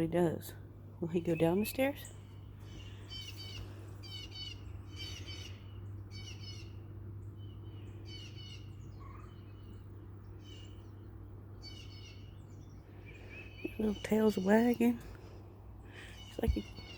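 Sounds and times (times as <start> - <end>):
songbirds chirping: 0.0 - 16.9
steady low hum: 0.0 - 16.9.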